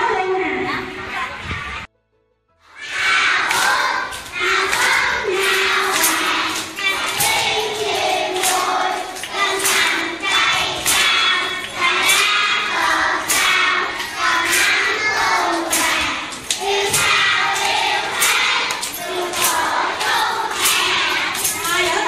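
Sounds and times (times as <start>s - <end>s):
children singing together: 2.7s - 22.0s.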